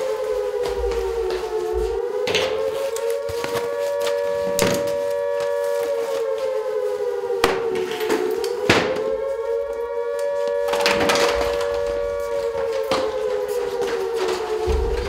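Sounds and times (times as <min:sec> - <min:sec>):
alarm siren wailing: 0:00.0 - 0:15.0.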